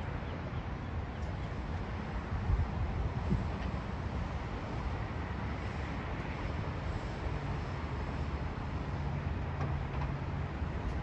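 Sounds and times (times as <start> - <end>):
jet engines at takeoff power: 0.0 - 11.0.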